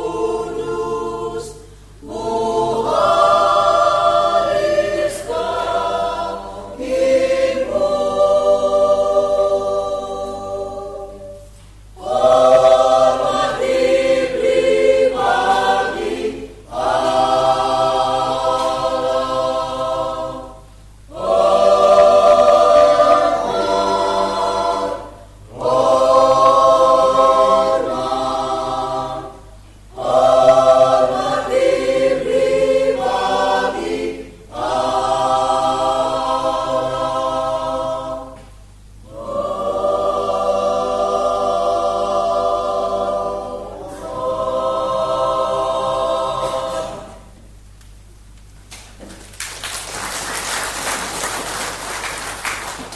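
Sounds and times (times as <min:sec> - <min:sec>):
choir singing a hymn: 0:00.0 - 0:47.6.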